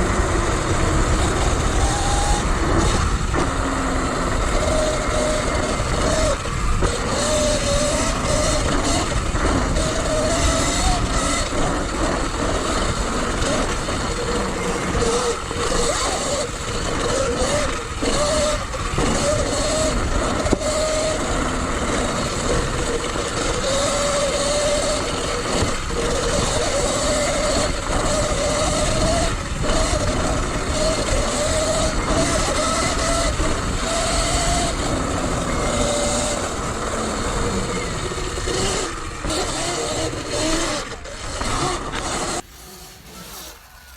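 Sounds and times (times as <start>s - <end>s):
electric motor whining: 0.0s - 43.9s
wind and tyre noise: 0.0s - 43.9s.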